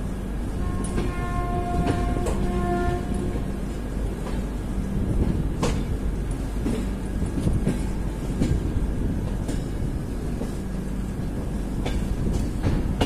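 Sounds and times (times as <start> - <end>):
train wheels rumbling on rail: 0.0 - 13.0
wheels clacking on track joints: 0.7 - 10.6, 11.2 - 13.0.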